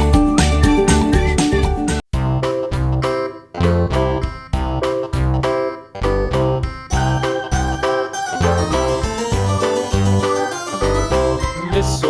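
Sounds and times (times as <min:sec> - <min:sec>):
keyboard notes in steady beat: 0:02.1 - 0:12.0.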